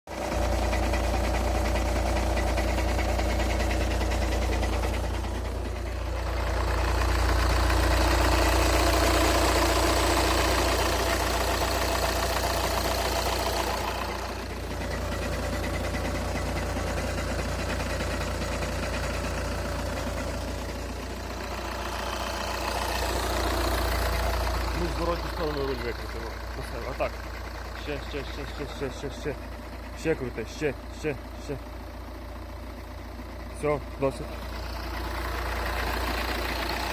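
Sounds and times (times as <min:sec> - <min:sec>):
diesel engine running: 0:00.1 - 0:36.9.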